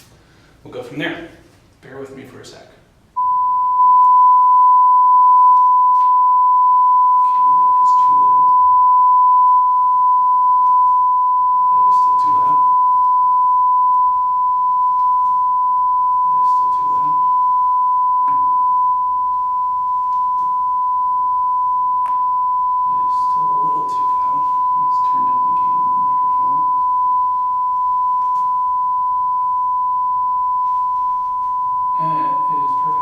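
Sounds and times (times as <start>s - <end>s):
faint room sounds: 0.0s - 33.0s
sine-wave test tone: 3.2s - 33.0s.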